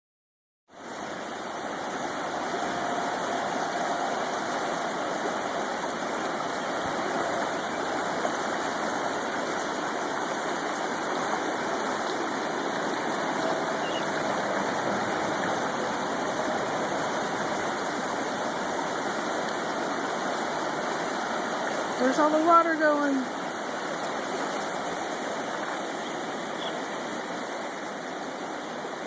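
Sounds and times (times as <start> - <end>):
river water rushing: 0.7 - 29.0.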